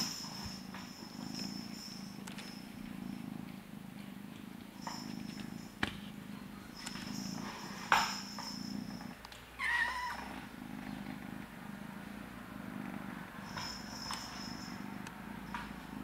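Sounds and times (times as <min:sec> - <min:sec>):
kittens purring: 0:00.0 - 0:16.0.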